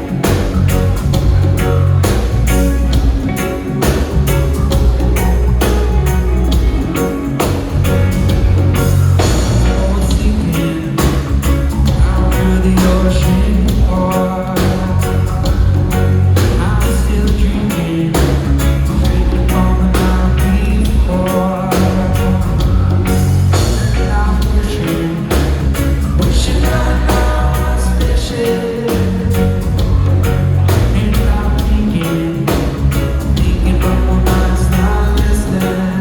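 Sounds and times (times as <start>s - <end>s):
reggae band playing: 0.0s - 36.0s
person singing: 3.1s - 36.0s.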